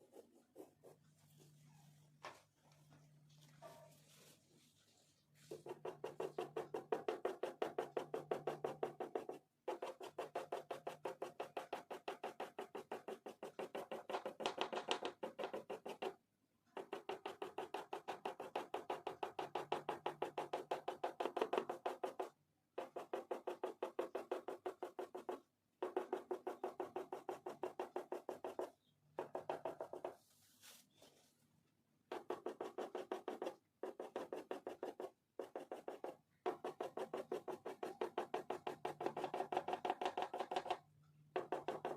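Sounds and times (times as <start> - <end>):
oil pastel scribbling on paper: 0.0 - 1.9, 3.8 - 16.2, 16.8 - 30.9, 32.1 - 40.8, 41.4 - 41.9.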